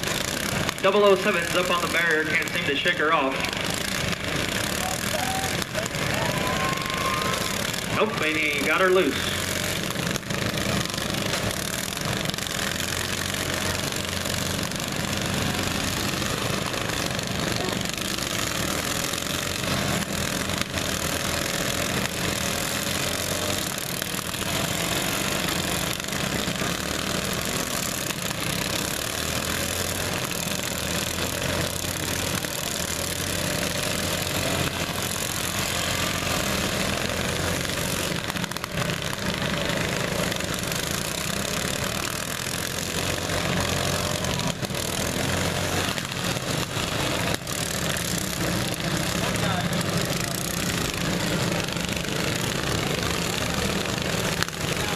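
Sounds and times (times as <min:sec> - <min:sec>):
lawn mower engines droning: 0:00.0 - 0:54.9.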